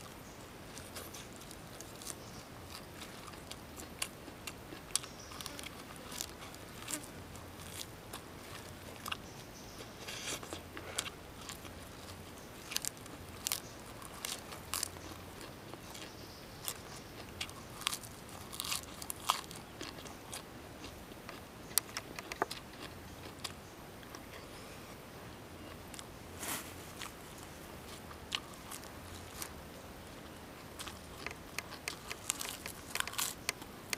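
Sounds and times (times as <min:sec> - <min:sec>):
person chewing lettuce: 0:00.0 - 0:24.5, 0:25.6 - 0:33.9.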